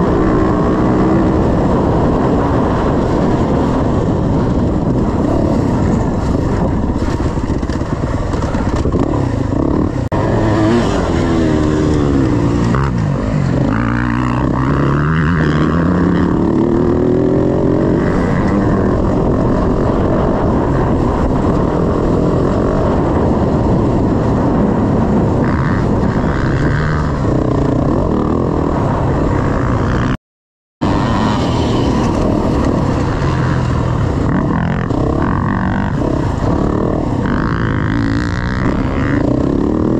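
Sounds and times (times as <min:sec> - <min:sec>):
dirt bike engine revving: 0:00.0 - 0:30.2, 0:30.8 - 0:39.9
riding noise: 0:00.0 - 0:30.2, 0:30.8 - 0:39.9.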